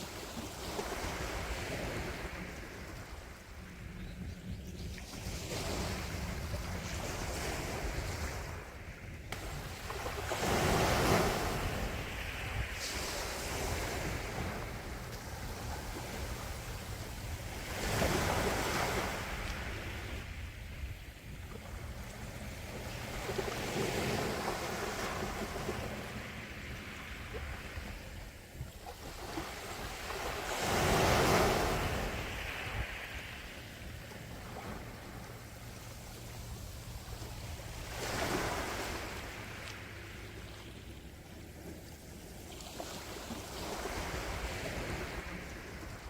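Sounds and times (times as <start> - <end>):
wind rumble on microphone: 0.0 - 46.0
sea waves washing onto shore: 5.2 - 46.0.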